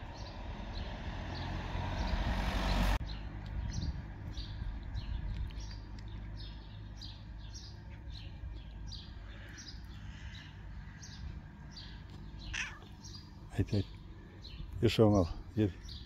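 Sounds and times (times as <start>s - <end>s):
low street rumble: 0.0s - 16.0s
small birds chirping: 0.0s - 16.0s.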